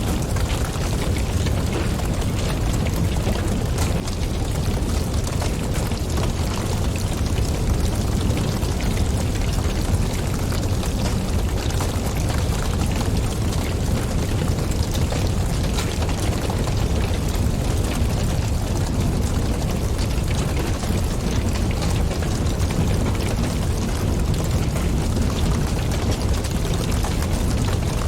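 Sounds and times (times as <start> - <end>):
low rumble of flames: 0.0 - 28.0
wind: 0.0 - 28.0
wood fire crackling: 0.0 - 28.0.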